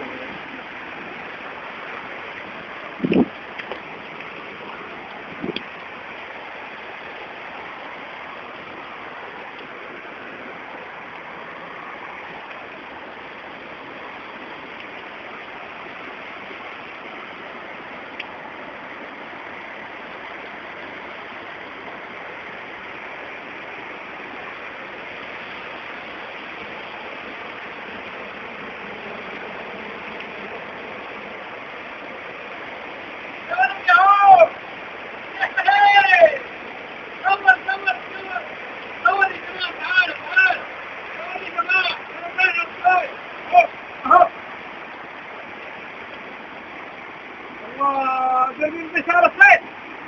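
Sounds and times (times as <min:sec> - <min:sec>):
rushing rain and floodwater: 0:00.0 - 0:50.0.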